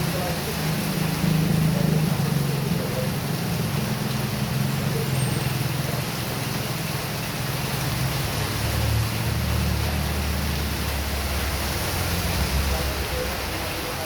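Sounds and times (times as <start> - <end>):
heavy rain hissing: 0.0 - 14.0
vehicle engine humming: 0.0 - 14.0.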